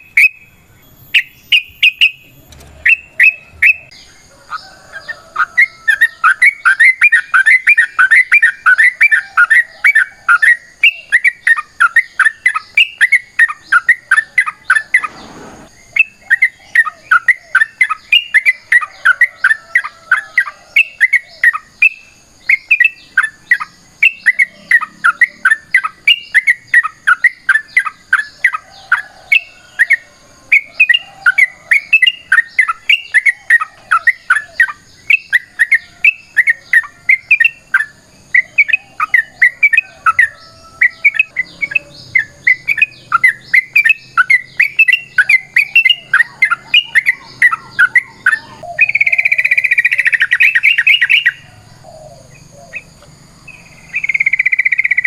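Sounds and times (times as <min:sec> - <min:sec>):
bird chattering song: 0:00.0 - 0:55.0.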